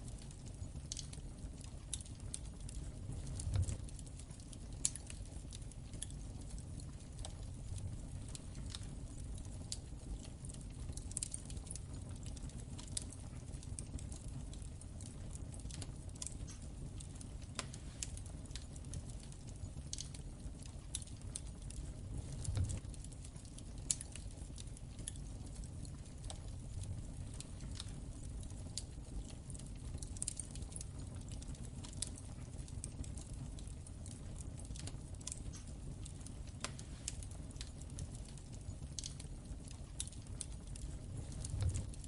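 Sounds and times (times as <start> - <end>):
low rumble of fire: 0.0 - 42.0
wood fire crackling and popping: 0.0 - 42.0.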